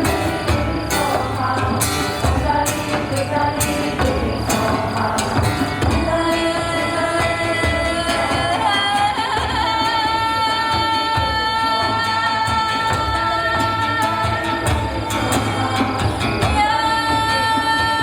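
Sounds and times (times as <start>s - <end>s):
live band playing: 0.0s - 18.0s
woman singing long notes: 0.0s - 18.0s.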